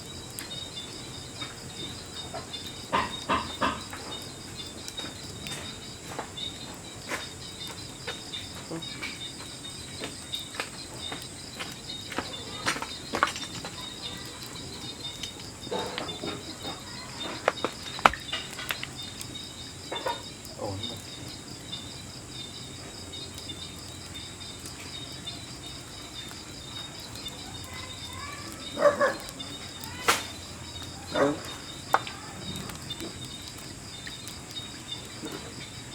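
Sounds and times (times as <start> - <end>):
crickets chirping: 0.0 - 35.9
wood fire crackling and popping: 0.0 - 35.9.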